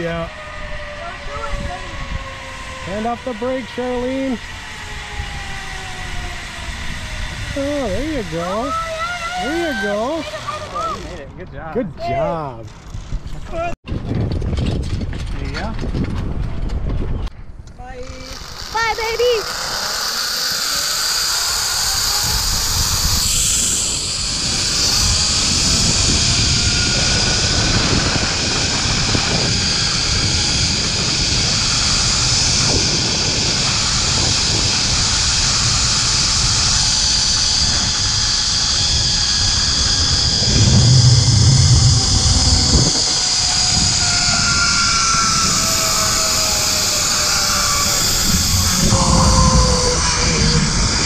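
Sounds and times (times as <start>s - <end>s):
zip line pulley whirring on cable: 0.0s - 11.2s, 18.0s - 51.0s
wind rumbling on microphone: 0.0s - 19.8s, 20.5s - 51.0s.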